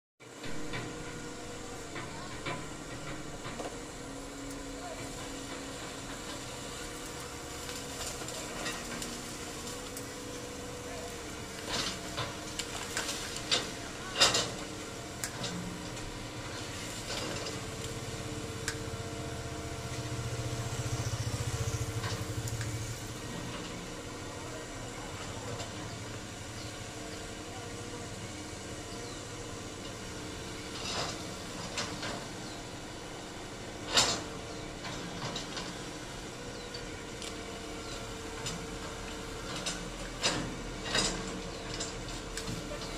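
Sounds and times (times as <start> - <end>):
excavator running with whine: 0.2 - 42.9.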